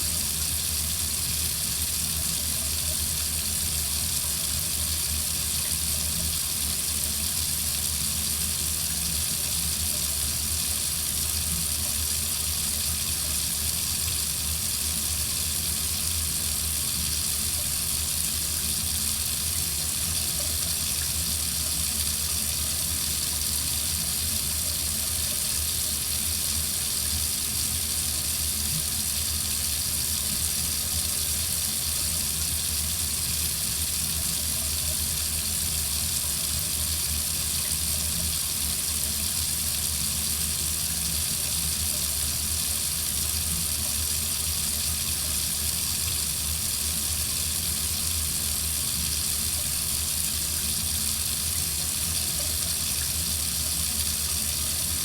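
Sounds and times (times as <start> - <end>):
water faucet running: 0.0 - 55.0.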